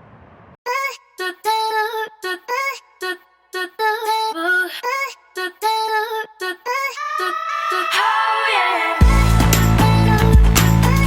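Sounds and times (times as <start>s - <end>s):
woman singing: 0.7s - 11.0s.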